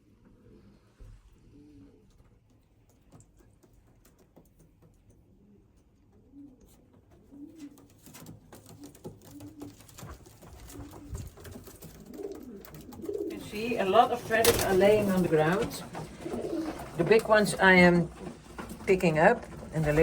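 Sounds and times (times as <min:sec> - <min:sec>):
pigeons cooing: 0:00.4 - 0:02.4, 0:05.3 - 0:20.0
clicks and rustles: 0:02.1 - 0:20.0.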